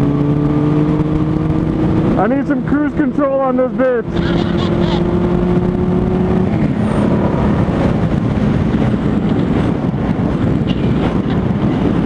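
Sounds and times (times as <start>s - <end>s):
motorcycle engine: 0.0s - 12.0s
wind rushing over microphone: 0.0s - 12.0s.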